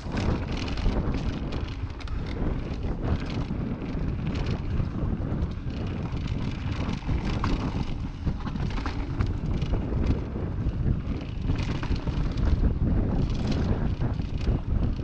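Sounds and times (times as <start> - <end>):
bike clicks and rattles: 0.0 - 15.0
tyre rumble: 0.0 - 15.0
wind buffeting microphone: 0.0 - 15.0.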